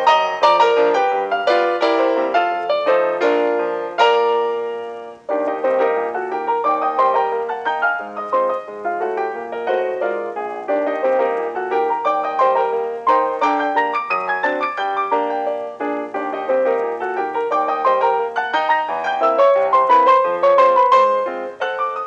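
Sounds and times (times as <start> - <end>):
light piano tune: 0.0 - 22.0.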